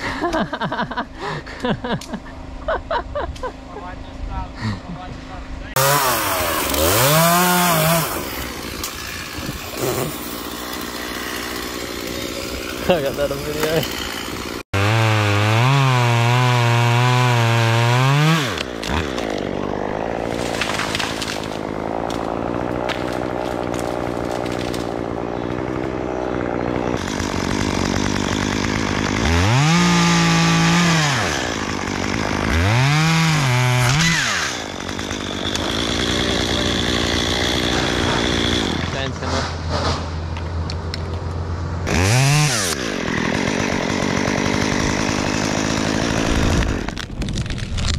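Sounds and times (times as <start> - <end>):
chainsaw revving: 5.7 - 40.0, 41.4 - 47.1
chainsaw cutting wood: 5.7 - 47.9.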